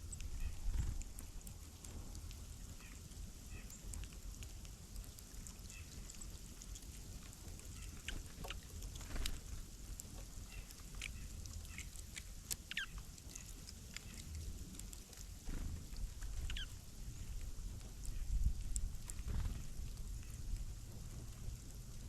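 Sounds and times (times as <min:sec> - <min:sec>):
small birds chirping: 0:00.0 - 0:21.8
low background rumble: 0:00.0 - 0:22.0.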